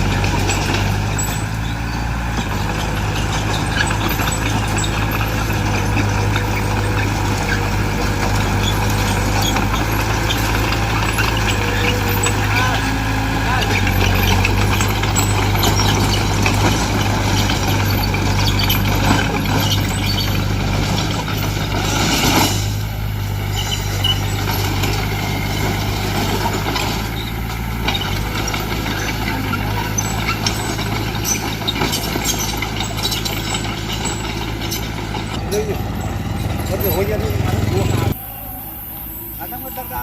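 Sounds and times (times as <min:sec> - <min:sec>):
metal clanks: 0:00.0 - 0:38.2
heavy diesel engine running: 0:00.0 - 0:40.0.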